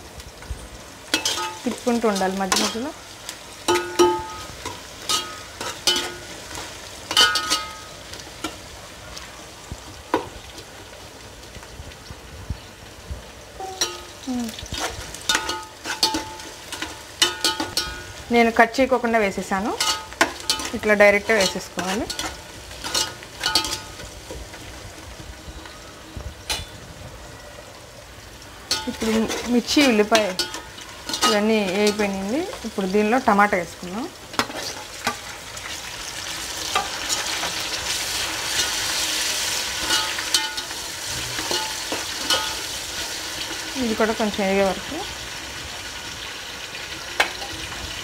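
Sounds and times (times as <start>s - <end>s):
onions sizzling in oil: 0.0s - 48.0s.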